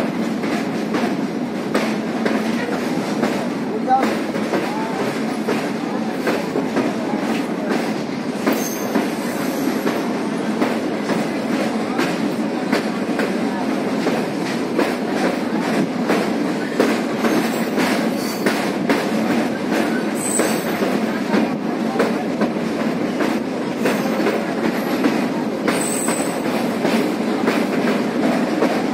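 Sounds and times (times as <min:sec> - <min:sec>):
train coach rumbling: 0:00.0 - 0:28.9.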